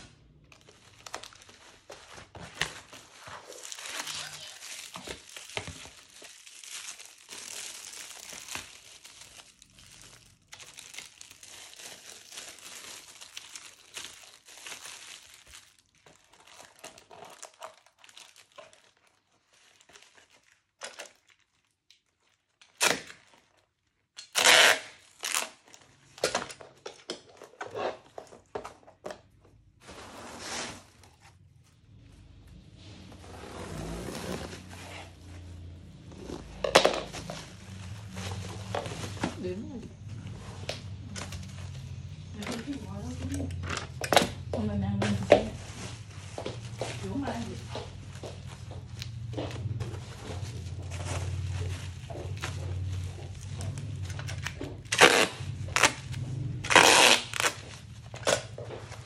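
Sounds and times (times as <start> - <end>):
plastic packaging crinkling: 0.0 - 29.8, 33.6 - 59.0.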